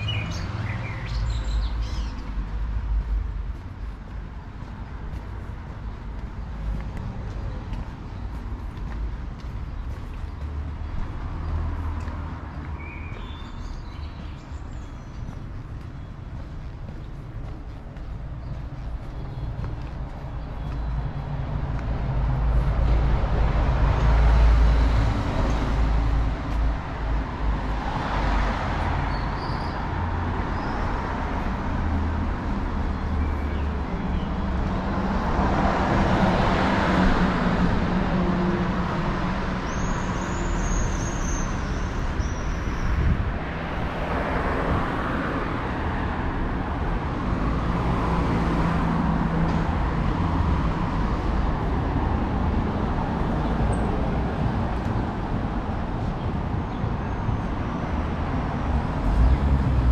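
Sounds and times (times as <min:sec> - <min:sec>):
cars passing: 0:00.0 - 0:59.9
low traffic rumble: 0:00.0 - 0:59.9.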